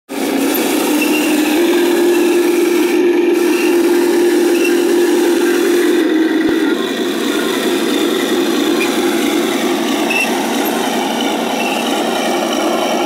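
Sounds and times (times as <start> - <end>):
toy tank drive whining: 0.1 - 13.0
tracks rattling: 0.1 - 13.0.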